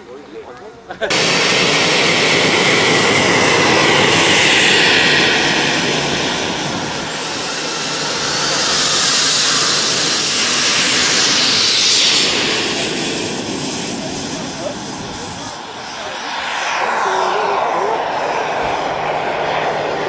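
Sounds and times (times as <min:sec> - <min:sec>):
model jet turbine whine: 0:01.1 - 0:20.0.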